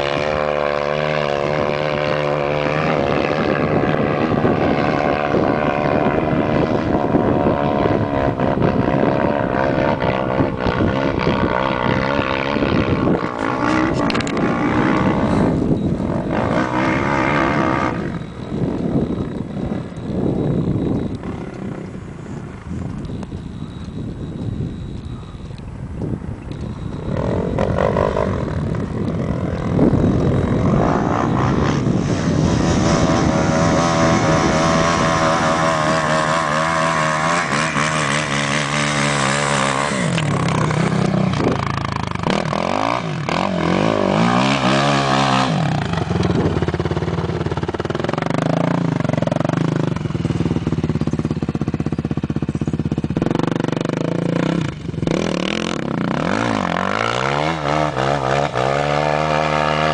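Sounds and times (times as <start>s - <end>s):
quad engine revving: 0.0s - 22.0s, 26.5s - 59.9s.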